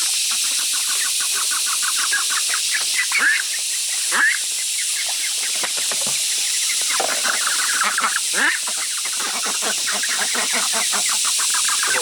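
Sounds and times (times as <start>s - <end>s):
poultry clucking: 0.2s - 12.0s.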